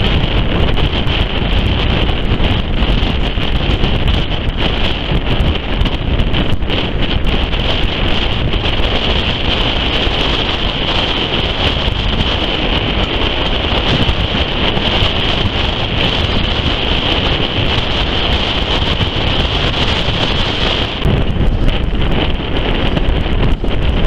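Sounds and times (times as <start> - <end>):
train running noise: 0.0 - 24.0
wind rushing over microphone: 0.0 - 24.0.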